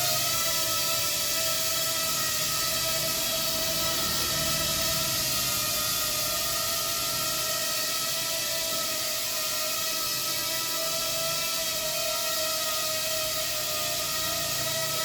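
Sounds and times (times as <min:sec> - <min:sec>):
electric motors spinning propellers: 0:00.0 - 0:15.0.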